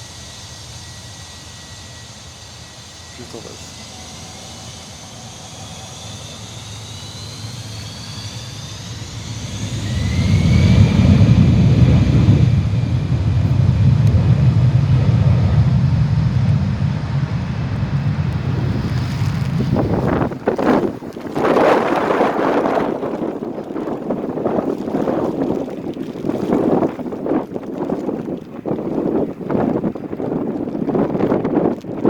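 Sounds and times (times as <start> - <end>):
jet engines spooling up: 0.0 - 32.0.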